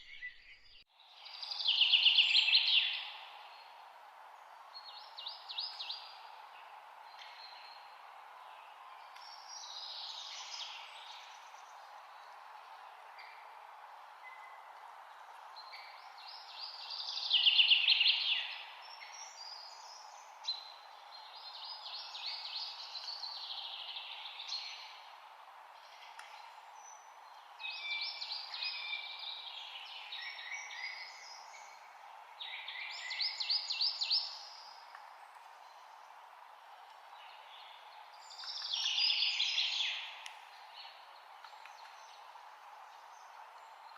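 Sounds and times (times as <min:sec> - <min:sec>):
steady background hiss: 0:00.9 - 0:43.9.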